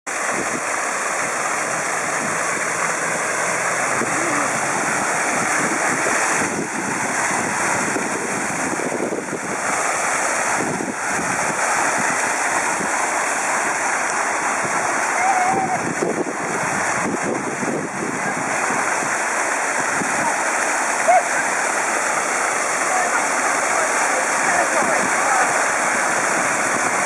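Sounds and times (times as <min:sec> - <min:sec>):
fountain water splashing: 0:00.1 - 0:27.0.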